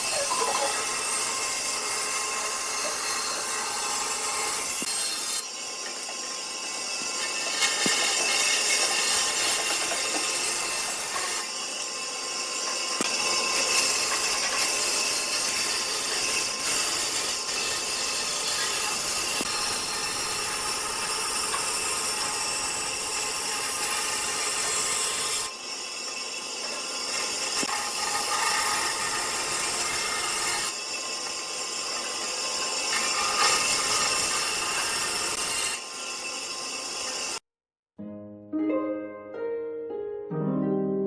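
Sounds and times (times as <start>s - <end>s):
power tools working wood: 0.0s - 37.4s.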